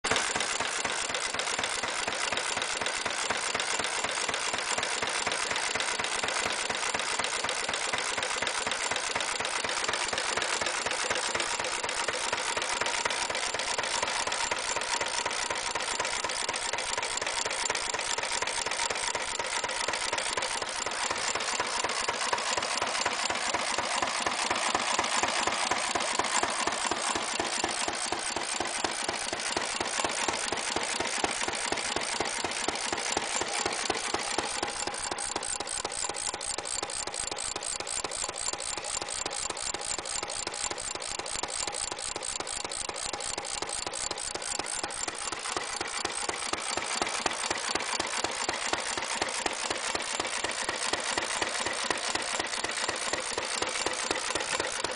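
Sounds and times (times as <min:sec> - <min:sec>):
stationary engine running: 0:00.0 - 0:54.9.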